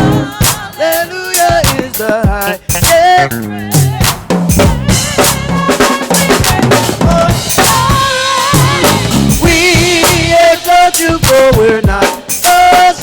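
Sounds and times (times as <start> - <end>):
drum kit strokes: 0.0 - 13.0
gospel band playing: 0.0 - 13.0.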